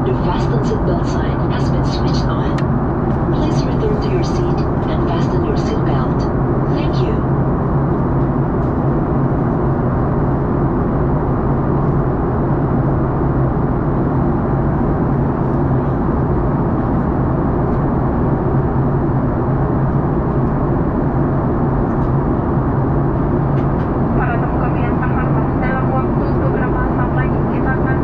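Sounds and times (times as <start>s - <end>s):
airplane cabin drone: 0.0s - 28.0s.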